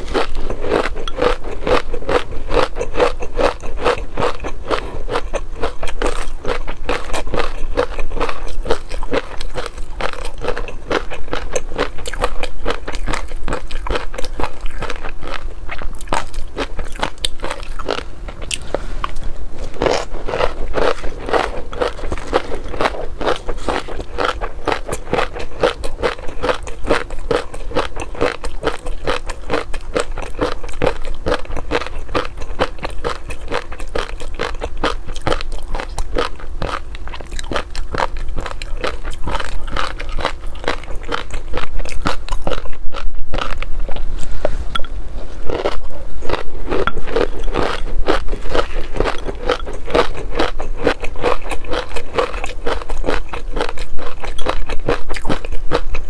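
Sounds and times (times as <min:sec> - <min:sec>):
crunchy chewing and biting: 0:00.0 - 0:56.0.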